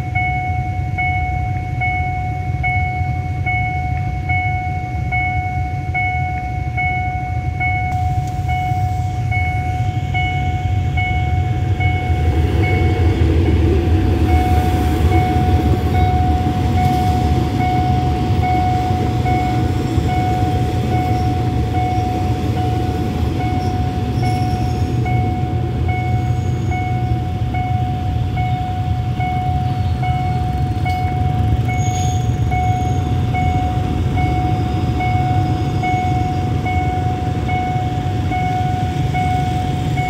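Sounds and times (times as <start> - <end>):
crossing warning bell ringing: 0.0 - 40.0
train rumbling over crossing: 0.0 - 40.0.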